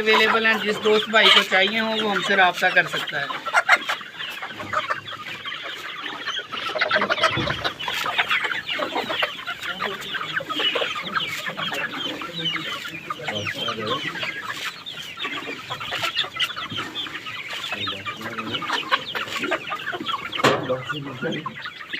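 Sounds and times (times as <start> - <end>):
chicks chirping and clucking: 0.0 - 21.9.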